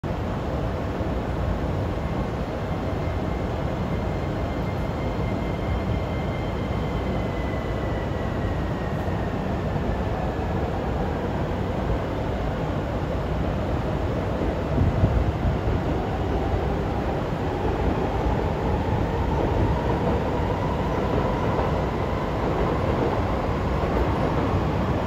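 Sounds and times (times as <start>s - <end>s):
electric trains rumbling on tracks: 0.0s - 25.0s.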